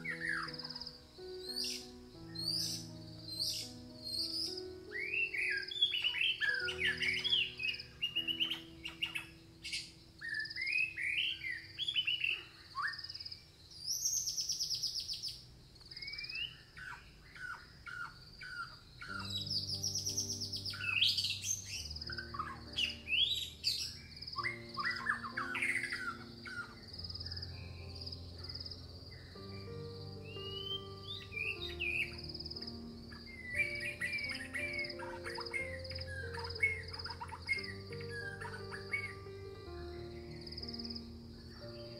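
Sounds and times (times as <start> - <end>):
crickets chirping: 0.0 - 41.9
soft background music: 0.0 - 41.9
songbirds warbling: 0.0 - 41.9.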